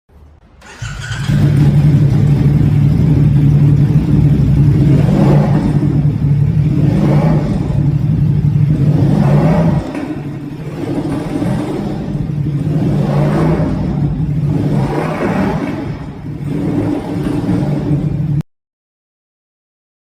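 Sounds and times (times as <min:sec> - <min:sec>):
motorcycle engine revving: 0:00.4 - 0:18.4.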